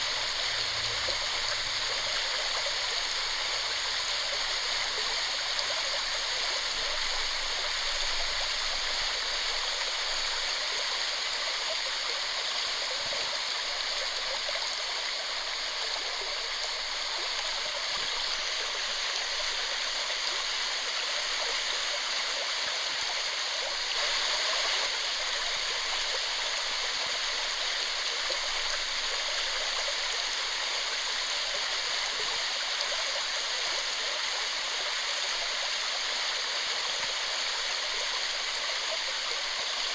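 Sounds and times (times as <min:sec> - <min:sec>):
waterfall rushing into pool: 0:00.0 - 0:39.9.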